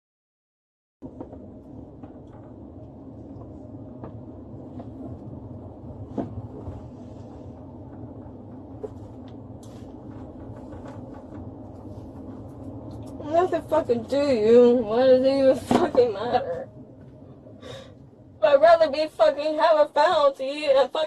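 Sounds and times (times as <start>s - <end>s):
car rumble from inside cabin: 1.0s - 21.0s.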